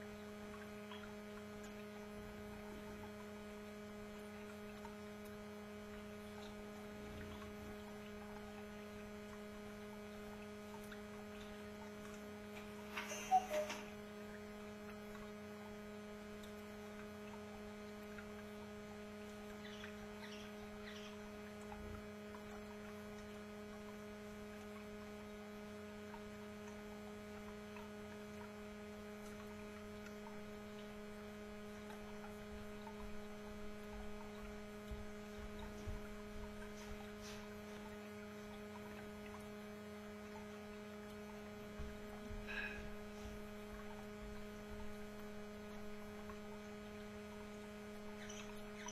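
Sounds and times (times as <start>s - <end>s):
electrical mains hum: 0.0s - 48.9s.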